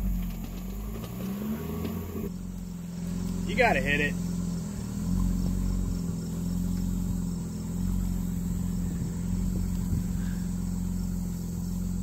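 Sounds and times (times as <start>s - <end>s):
car engine running at low speed: 0.0s - 12.0s
crickets chirping: 0.0s - 12.0s.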